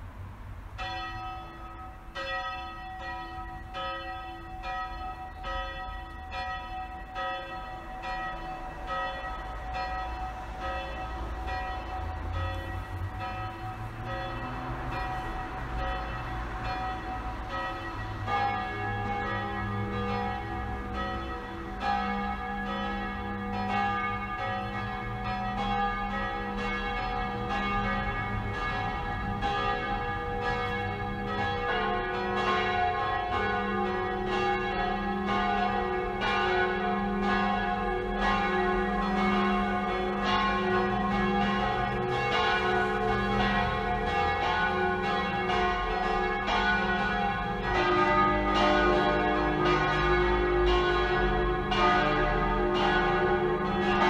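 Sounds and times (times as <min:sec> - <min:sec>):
church bells pealing: 0:00.7 - 0:54.0.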